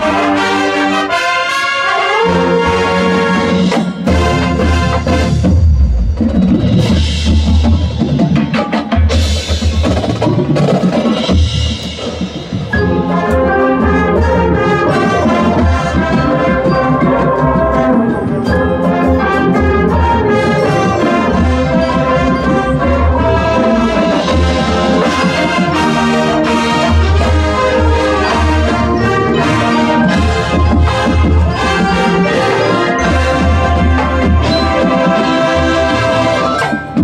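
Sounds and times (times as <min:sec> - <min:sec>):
brass section chords: 0:00.0 - 0:05.8, 0:12.8 - 0:37.0
marching band percussion: 0:00.0 - 0:37.0.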